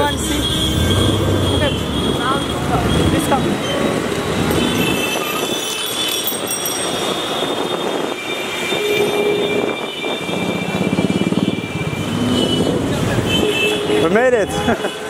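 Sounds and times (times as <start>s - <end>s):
street traffic: 0.0s - 15.0s
vehicle horns: 0.0s - 15.0s.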